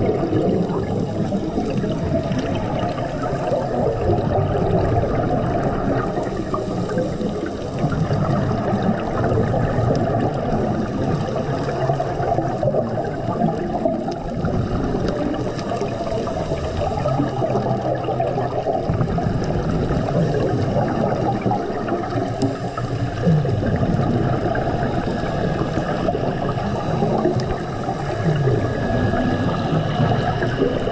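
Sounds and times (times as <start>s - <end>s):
muffled underwater water gurgling: 0.0s - 30.9s.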